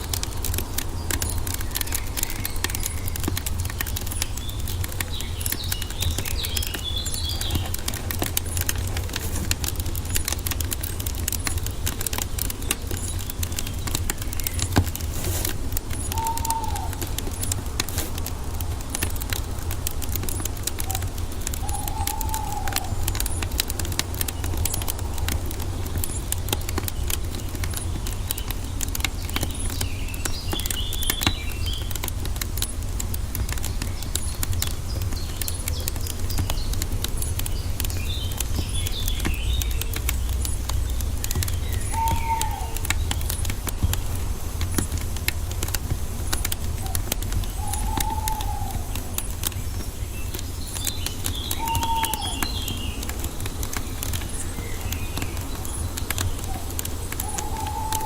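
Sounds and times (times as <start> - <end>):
birds twittering: 0.0 - 58.0
low arching bird calls: 0.0 - 58.0
wood fire crackling: 0.0 - 58.0.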